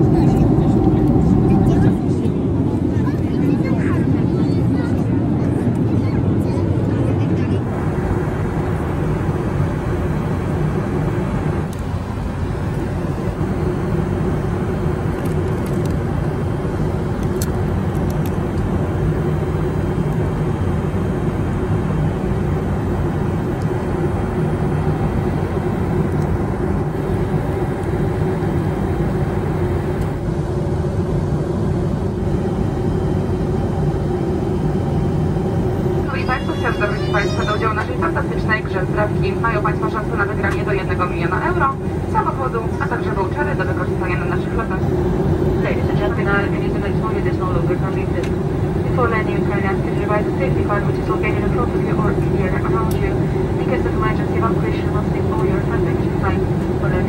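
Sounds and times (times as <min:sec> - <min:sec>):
jet engine low hum: 0:00.0 - 0:57.0
rushing air in cabin: 0:00.0 - 0:57.0.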